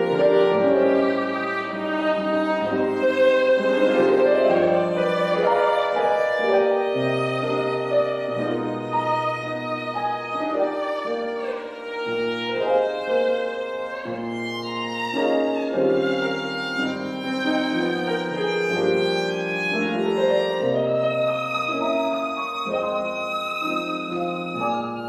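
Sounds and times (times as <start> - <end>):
piano chords: 0.0 - 25.0
violin melody: 0.0 - 25.0.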